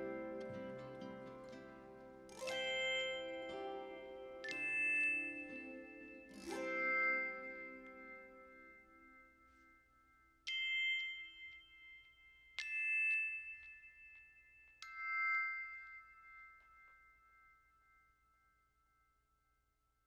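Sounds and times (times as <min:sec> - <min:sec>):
bell-like chime notes: 0:00.0 - 0:18.8.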